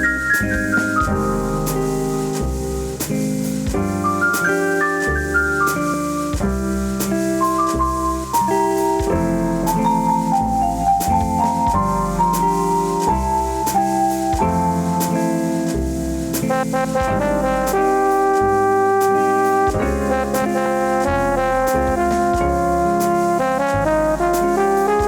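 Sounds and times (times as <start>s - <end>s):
light percussion: 0.0s - 25.0s
piano jazz ballad: 0.0s - 25.0s.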